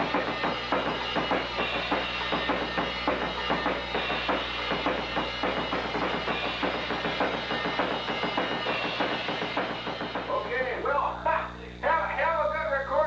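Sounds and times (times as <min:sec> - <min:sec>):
drum kit playing: 0:00.0 - 0:11.6.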